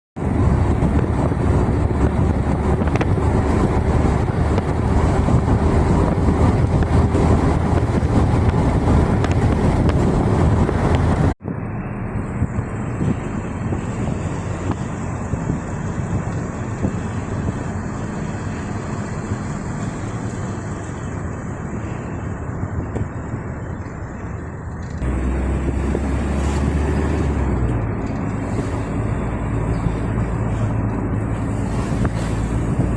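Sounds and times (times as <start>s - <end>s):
engine running: 0.2s - 32.9s.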